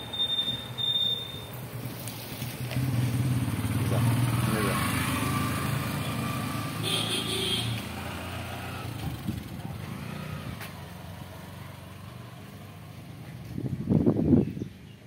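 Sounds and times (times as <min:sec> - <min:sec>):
motorcycle engine riding away: 0:00.0 - 0:15.0.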